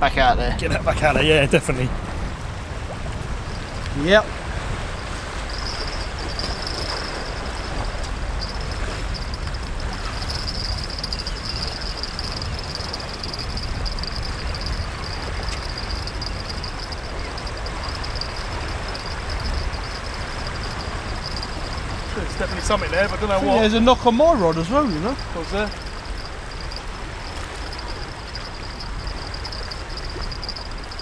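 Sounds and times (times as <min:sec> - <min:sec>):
wind rumbling on microphone: 0:00.0 - 0:31.0
sea washing: 0:01.0 - 0:31.0.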